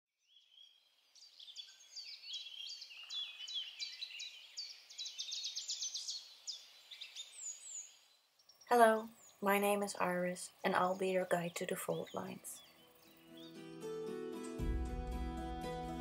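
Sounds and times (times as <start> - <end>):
songbirds singing: 0.2 - 13.9.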